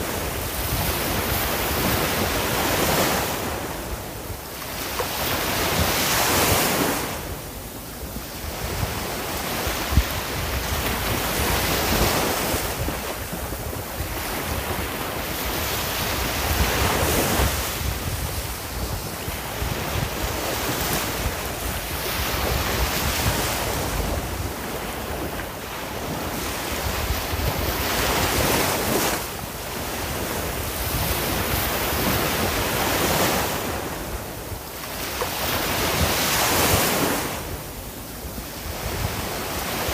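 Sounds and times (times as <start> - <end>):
sea waves breaking on shore: 0.0 - 39.9
wind noise on microphone: 0.0 - 39.9.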